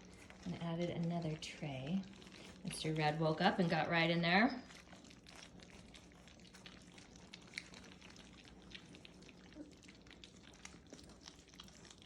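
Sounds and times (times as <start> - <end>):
puppies lapping and chewing food: 0.0 - 12.0.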